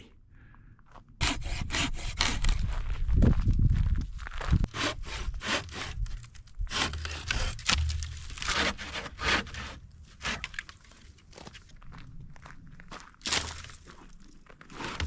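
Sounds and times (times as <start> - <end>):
dry wood scraping and crunching: 1.2 - 15.0.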